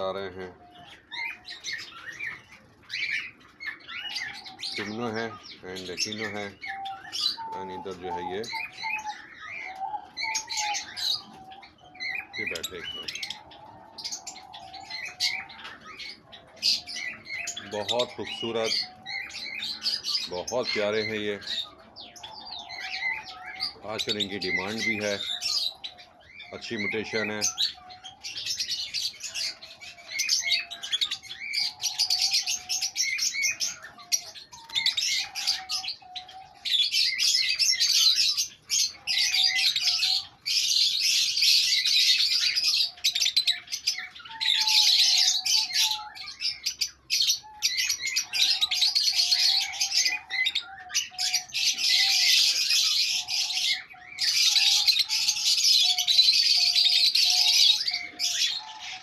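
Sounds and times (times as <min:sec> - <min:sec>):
lovebirds chirping: 0:00.0 - 0:59.0.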